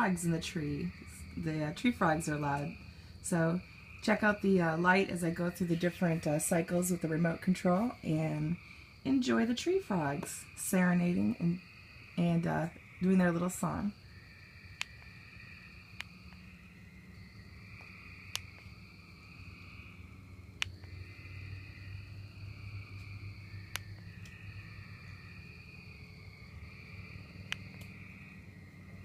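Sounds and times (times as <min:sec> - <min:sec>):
tree frogs trilling: 0:00.0 - 0:29.0.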